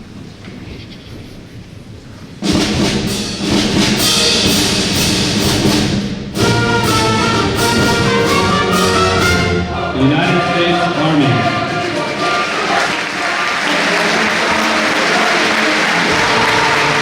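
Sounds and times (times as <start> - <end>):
brass and orchestra playing: 2.4 - 17.0
timpani: 2.4 - 17.0.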